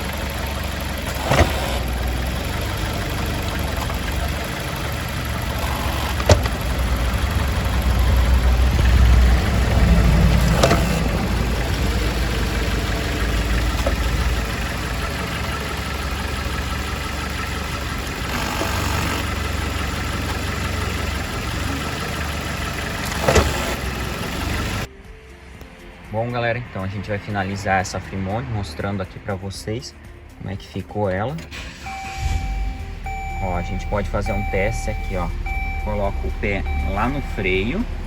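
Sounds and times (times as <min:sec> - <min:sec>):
car engine idling: 0:00.0 - 0:24.9, 0:31.1 - 0:38.0.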